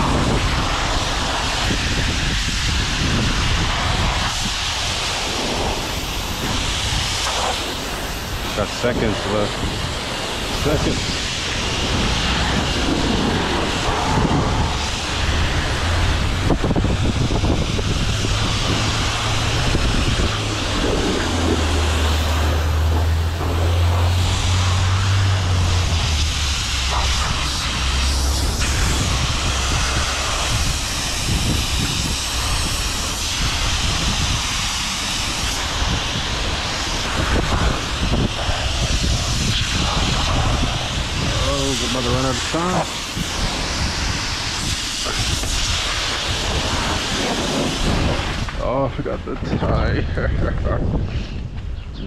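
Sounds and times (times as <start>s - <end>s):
low hum: 0.0s - 42.1s
pressure washer spraying water: 0.0s - 48.6s
low rumble: 0.0s - 52.0s.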